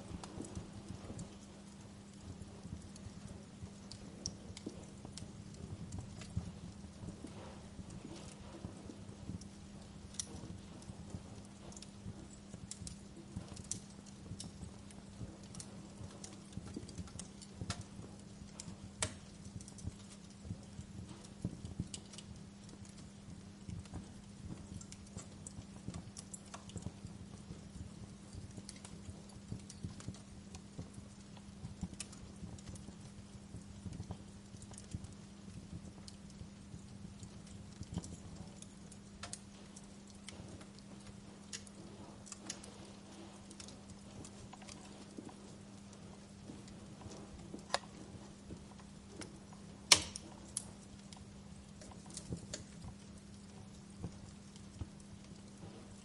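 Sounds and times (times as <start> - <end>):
sharp pops and snaps: 0.0 - 56.0
soft hiss: 0.0 - 56.0
steady low hum: 0.0 - 56.0
wood fire crackling: 0.0 - 56.0.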